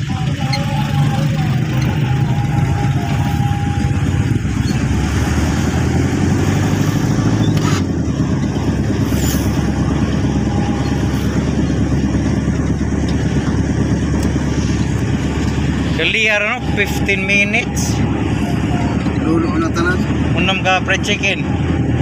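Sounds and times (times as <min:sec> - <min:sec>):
car engine inside cabin: 0:00.0 - 0:22.0
road noise: 0:00.0 - 0:22.0.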